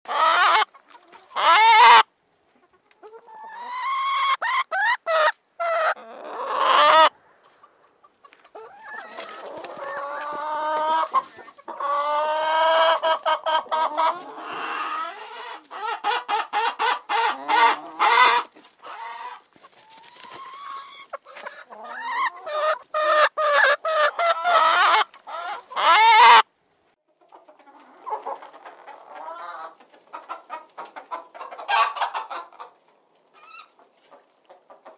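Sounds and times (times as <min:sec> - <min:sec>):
chickens clucking: 0:00.1 - 0:26.5, 0:27.1 - 0:34.9.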